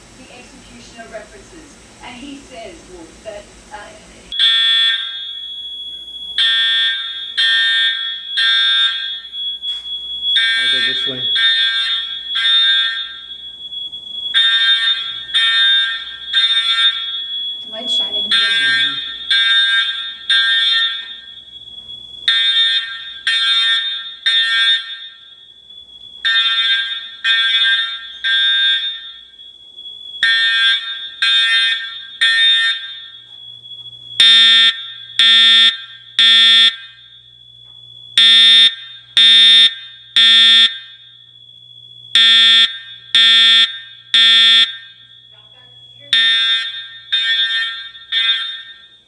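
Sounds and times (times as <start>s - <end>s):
fire alarm horn blasts: 4.3s - 49.0s
steady high tone: 4.3s - 49.0s.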